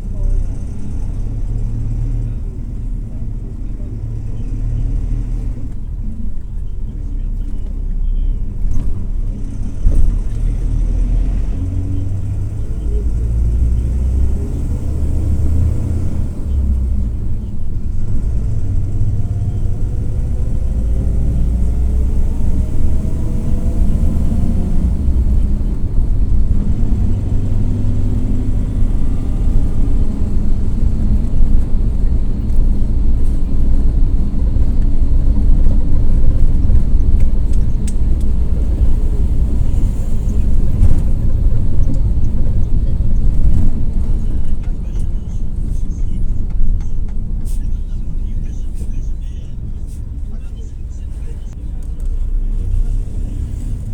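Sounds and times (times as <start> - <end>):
diesel engine rumbling: 0.0 - 53.9.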